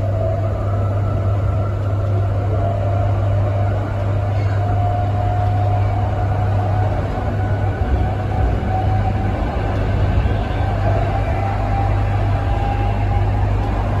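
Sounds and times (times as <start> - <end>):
train low hum: 0.0 - 14.0
wheels rumbling on track: 0.0 - 14.0.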